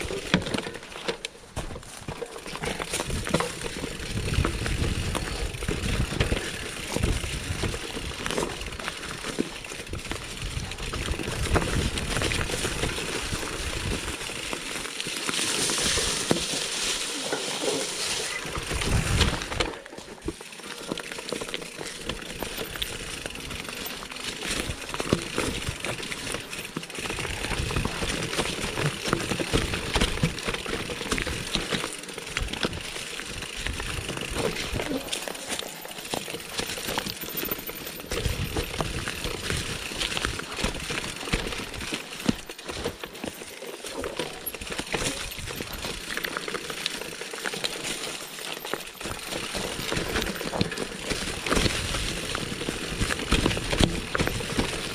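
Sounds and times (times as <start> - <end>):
bike rattling and knocking: 0.0 - 54.9
bike tyres on loose ground: 0.0 - 54.9.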